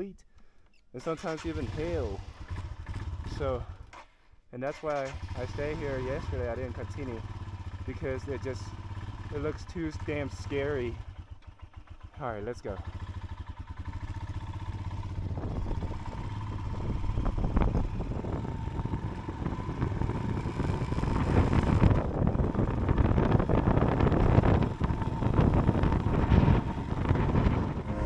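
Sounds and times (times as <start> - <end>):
motorcycle engine pulling away: 1.3 - 3.9, 5.0 - 28.0.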